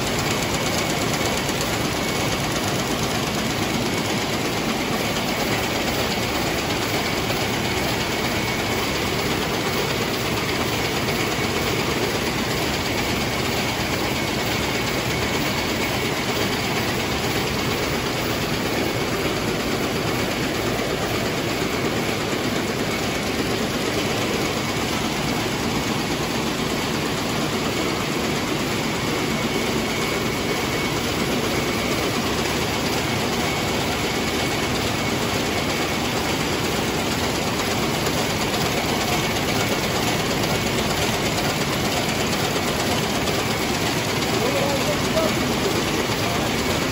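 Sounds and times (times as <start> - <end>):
weaving looms clattering: 0.0 - 46.9.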